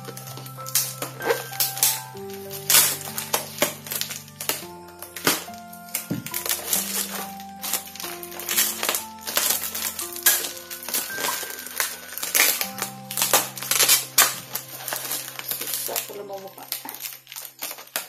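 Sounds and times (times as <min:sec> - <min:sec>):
background music with sustained notes: 0:00.0 - 0:18.0
plastic packaging crinkling: 0:00.0 - 0:18.0.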